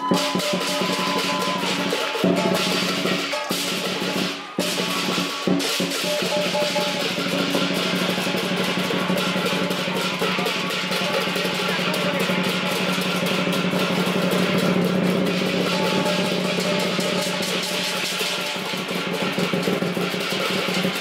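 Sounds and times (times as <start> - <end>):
cymbals clashing: 0.0 - 21.0
large drum beating: 0.0 - 21.0.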